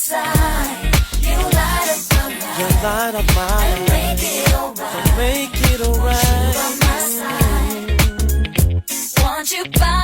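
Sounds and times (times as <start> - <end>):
r and b song with funky beat: 0.0 - 10.0.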